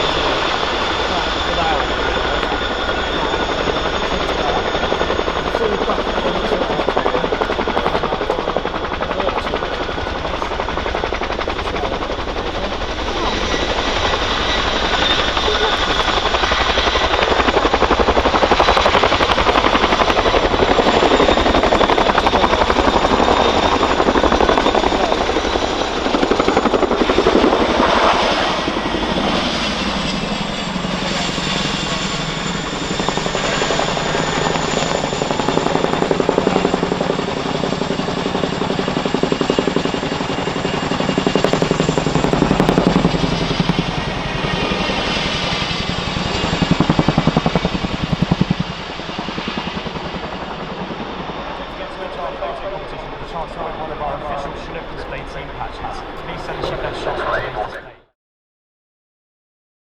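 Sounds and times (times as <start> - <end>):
helicopter rotor blades thudding: 0.0 - 57.2
high turbine whine: 0.0 - 58.1.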